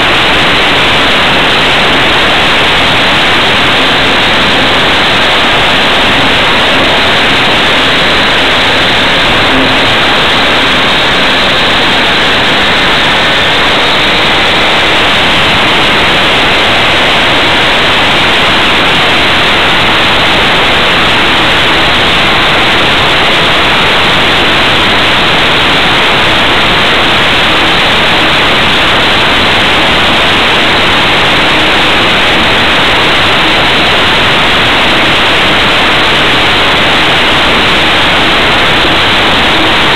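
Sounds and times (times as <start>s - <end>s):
faint steady hum: 0.0s - 39.9s
rush of airflow noise: 0.0s - 39.9s.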